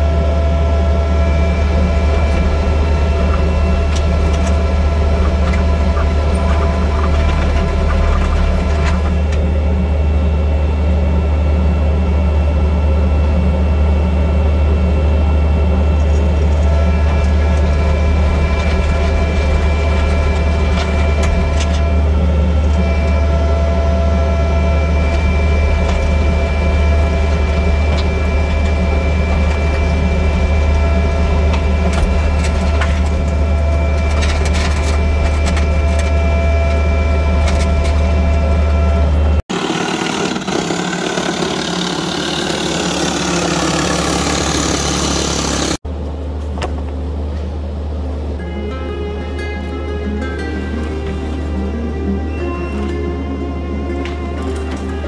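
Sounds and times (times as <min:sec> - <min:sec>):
diesel engine running: 0:00.0 - 0:48.4
steady whine: 0:00.0 - 0:55.0.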